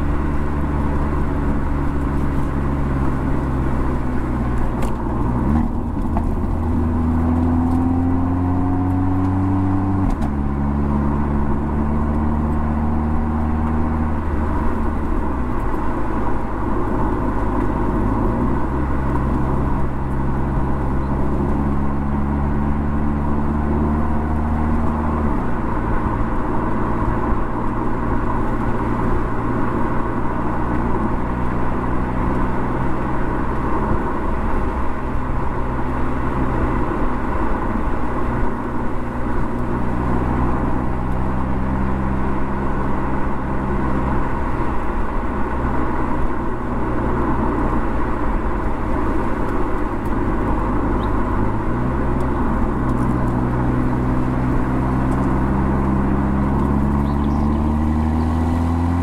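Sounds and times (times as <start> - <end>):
car engine hum: 0.0 - 59.0
road and tyre noise: 0.0 - 59.0.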